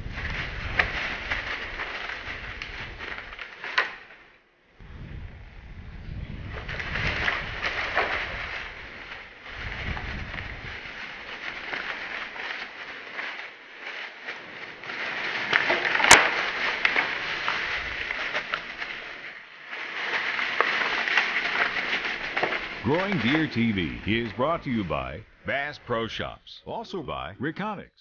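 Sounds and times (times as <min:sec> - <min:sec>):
close rustling and crackling: 0:00.0 - 0:27.3.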